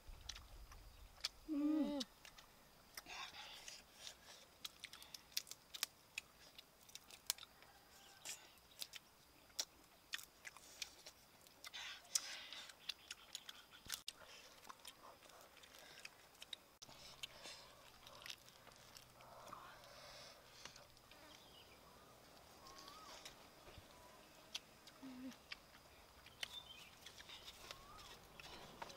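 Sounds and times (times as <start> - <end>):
people chewing food: 0.0 - 28.9.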